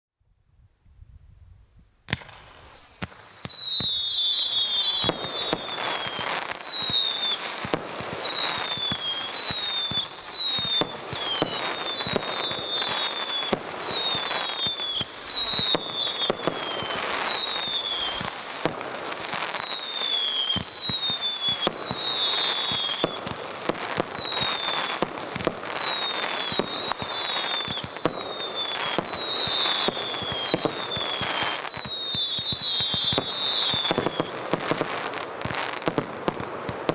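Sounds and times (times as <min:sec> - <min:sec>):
firework cracks and bursts: 0:02.0 - 0:36.9
whistling firework comets: 0:02.1 - 0:36.9.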